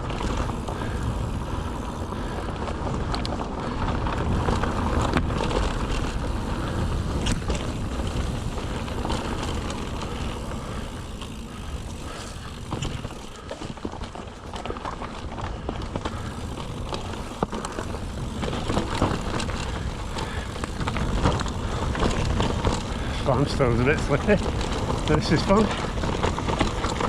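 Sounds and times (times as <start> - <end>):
bike clicks and rattles: 0.0 - 27.0
bike tyre rumble on dirt: 0.0 - 27.0.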